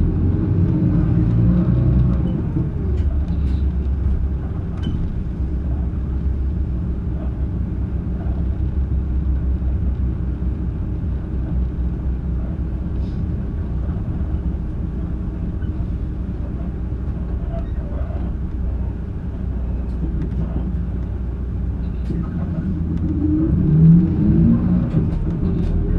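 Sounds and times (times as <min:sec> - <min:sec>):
bus diesel engine and road rumble: 0:00.0 - 0:25.9.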